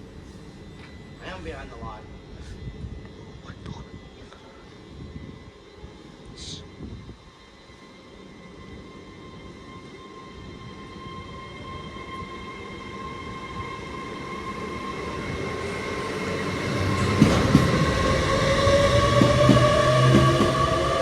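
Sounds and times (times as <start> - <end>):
train traction whine: 0.0 - 21.0.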